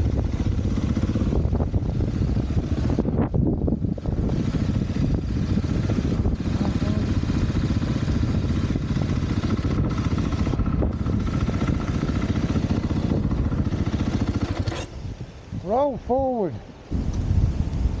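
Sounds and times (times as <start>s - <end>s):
dirt bike engine running: 0.0s - 15.2s.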